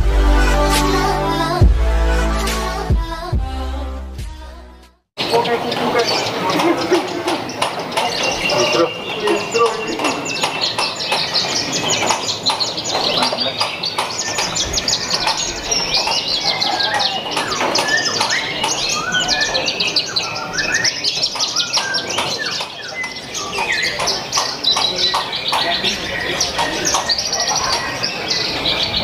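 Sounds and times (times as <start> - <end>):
birds chirping and trilling: 5.2 - 29.0.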